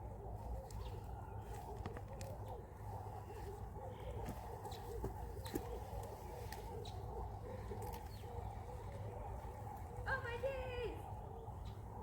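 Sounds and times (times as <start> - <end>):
soft low bird calls: 0.0 - 12.0.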